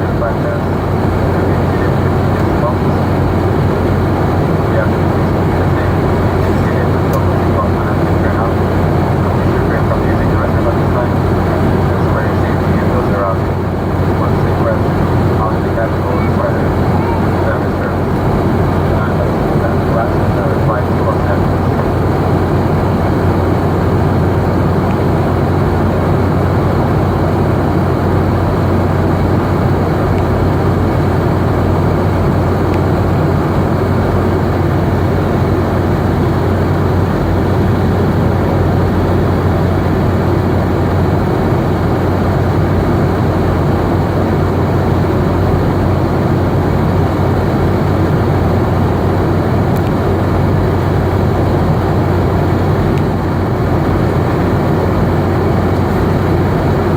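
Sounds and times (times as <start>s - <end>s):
jet engines and rushing air: 0.0s - 56.9s
low hum: 0.0s - 56.9s.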